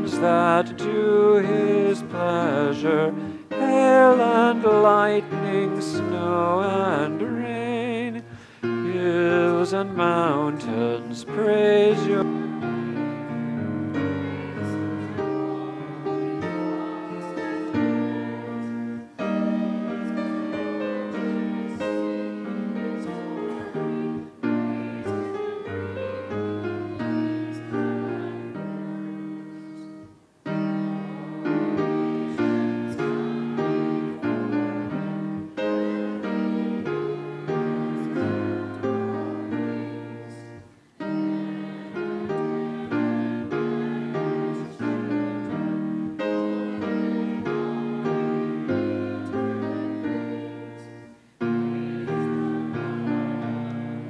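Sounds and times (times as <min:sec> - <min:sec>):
person singing a hymn with vibrato: 0:00.0 - 0:54.0
piano accompaniment: 0:00.0 - 0:54.0.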